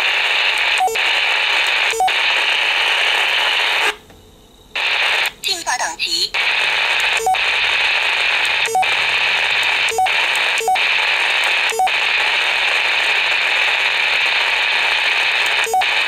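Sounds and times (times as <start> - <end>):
radio static hiss: 0.0 - 4.0, 4.7 - 16.0.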